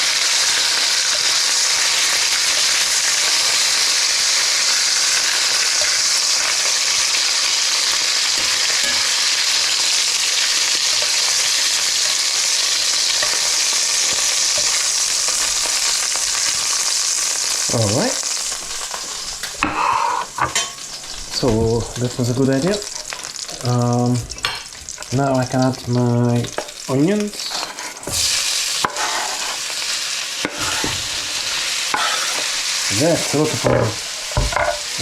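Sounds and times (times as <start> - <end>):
chicken sizzling in fat: 0.0 - 35.0.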